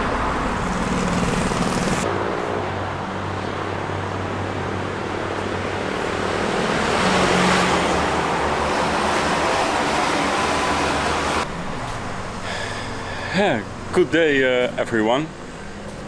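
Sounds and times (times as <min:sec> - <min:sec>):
motor vehicle passing: 0:00.0 - 0:14.7.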